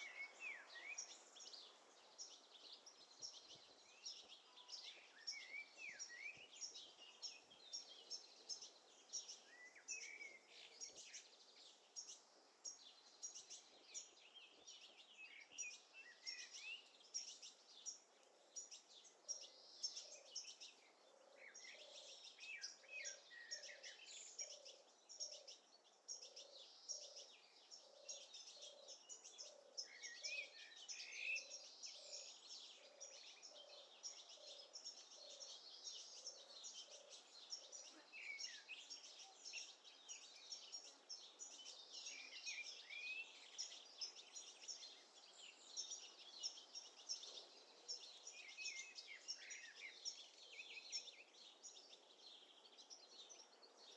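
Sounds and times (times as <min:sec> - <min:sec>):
songbirds chirping and singing: 0:00.0 - 0:53.9.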